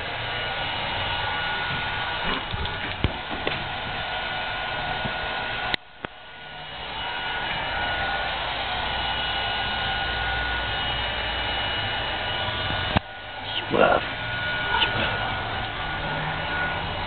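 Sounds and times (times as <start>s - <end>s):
appliance motor whirring: 0.0s - 17.0s.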